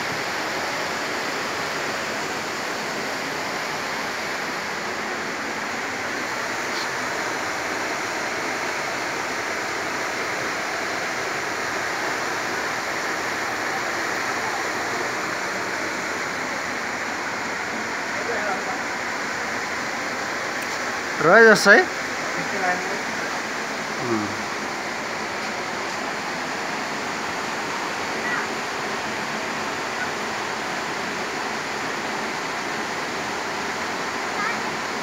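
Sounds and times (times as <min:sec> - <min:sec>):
stream water rushing: 0:00.0 - 0:35.0.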